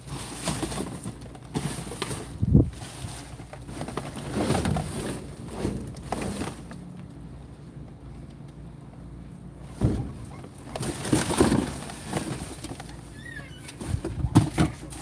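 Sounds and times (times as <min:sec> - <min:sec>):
cardboard scraping in metal dumpster: 0:00.0 - 0:06.7, 0:09.7 - 0:15.0.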